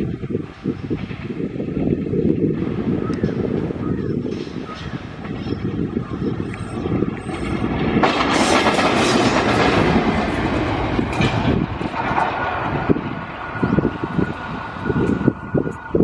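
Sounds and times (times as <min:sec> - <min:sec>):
locomotive engine rumble: 0:00.0 - 0:16.0
wheel and rail clatter: 0:00.0 - 0:16.0.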